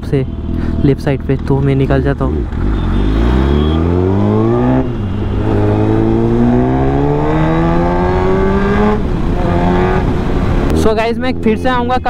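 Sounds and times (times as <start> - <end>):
motorcycle engine accelerating: 1.3 - 11.7.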